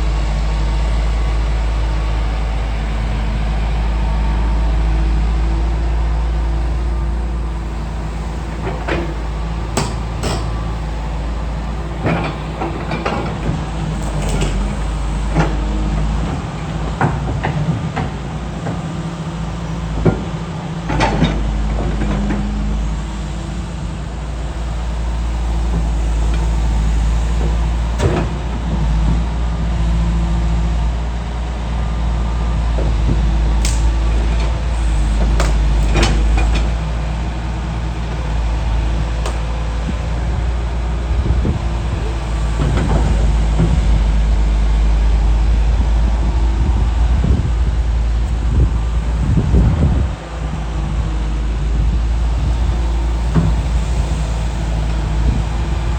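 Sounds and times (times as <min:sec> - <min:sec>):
diesel excavator engine rumbling: 0:00.0 - 0:55.9.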